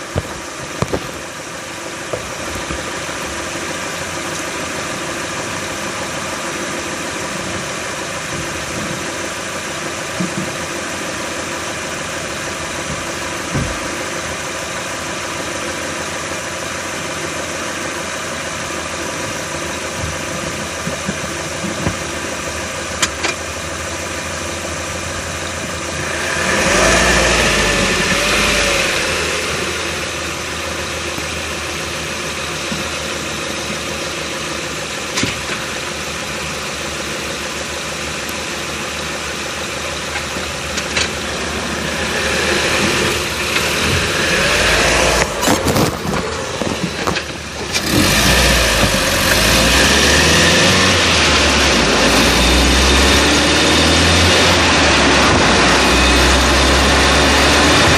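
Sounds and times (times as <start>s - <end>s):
car engine running hum: 0.0s - 57.9s.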